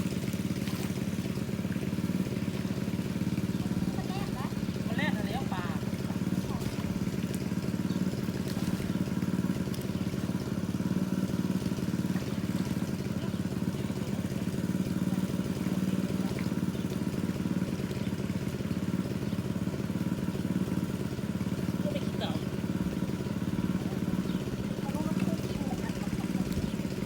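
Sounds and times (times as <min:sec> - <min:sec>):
water pump engine running: 0:00.0 - 0:27.0.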